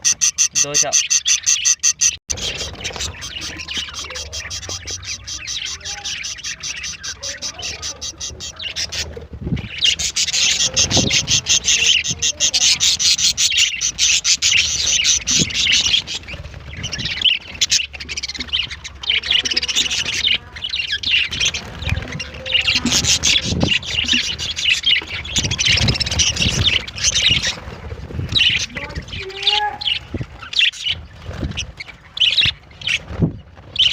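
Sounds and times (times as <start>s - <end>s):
budgerigars chattering: 0.0s - 33.9s.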